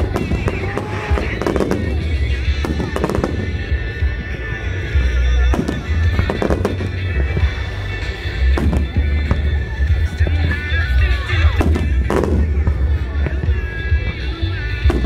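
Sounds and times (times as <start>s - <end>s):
fireworks bangs and crackles: 0.0s - 15.0s
low fireworks rumble: 0.0s - 15.0s.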